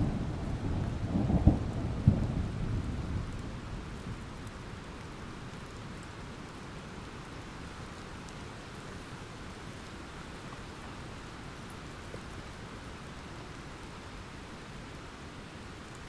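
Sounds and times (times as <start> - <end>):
faint raindrop ticks: 0.0 - 16.0
steady rain hiss: 0.0 - 16.0.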